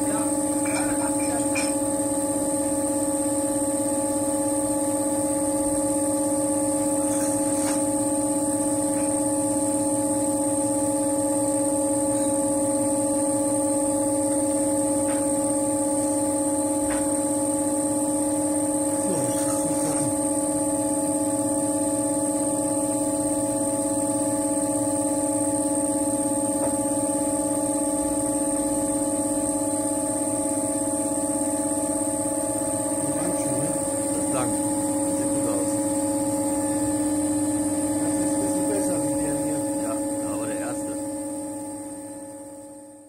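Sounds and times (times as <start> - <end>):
electrical machine hum: 0.0 - 43.0.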